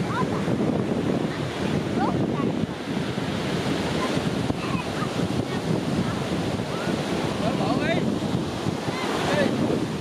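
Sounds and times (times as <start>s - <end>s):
ocean surf washing ashore: 0.0s - 10.0s
wind buffeting microphone: 0.0s - 10.0s.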